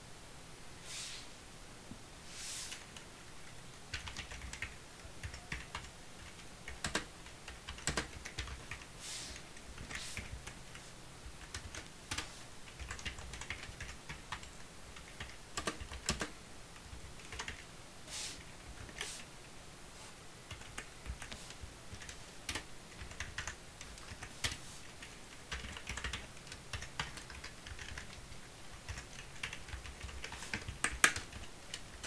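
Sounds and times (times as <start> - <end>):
keyboard typing: 2.7 - 10.8, 11.4 - 17.7, 20.5 - 32.0.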